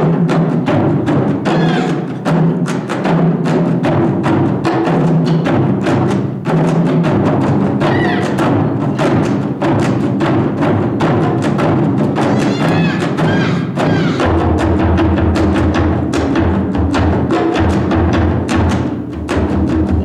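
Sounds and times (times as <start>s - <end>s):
taiko drums playing: 0.0s - 20.0s.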